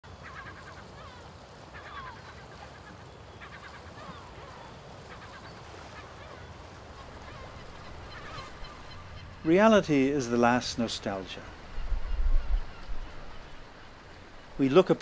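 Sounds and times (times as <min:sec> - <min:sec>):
low background noise: 0:00.0 - 0:15.0
birds calling harshly: 0:00.1 - 0:15.0.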